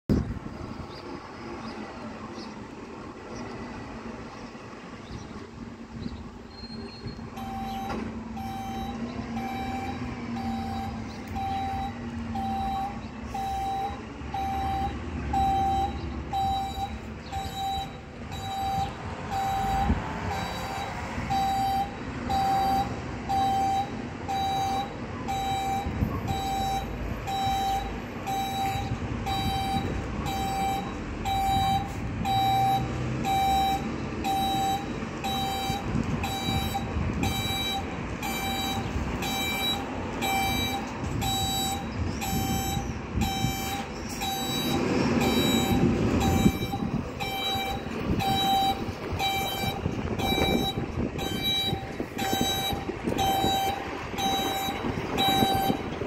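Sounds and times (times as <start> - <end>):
truck engine running: 0.1 - 56.0
reversing alarm beeping: 6.5 - 56.0.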